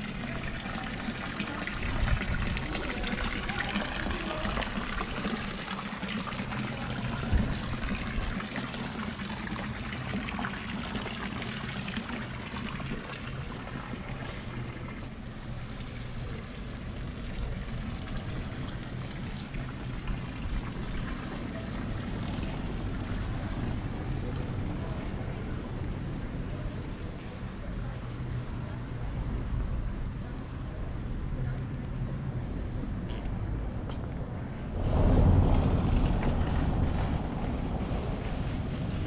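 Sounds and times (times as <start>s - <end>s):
fountain water splashing: 0.0s - 31.1s, 34.7s - 39.0s
low street rumble: 0.0s - 39.0s.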